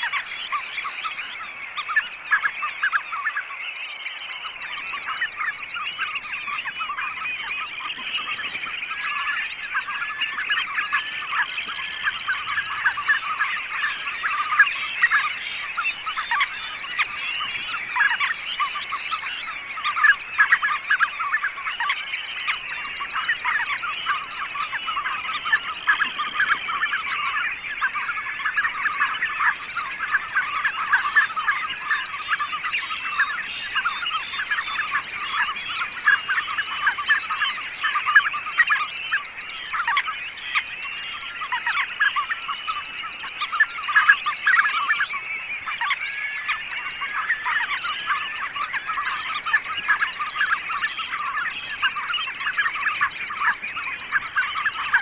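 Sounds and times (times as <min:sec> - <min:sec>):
flock of birds chattering: 0:00.0 - 0:55.0.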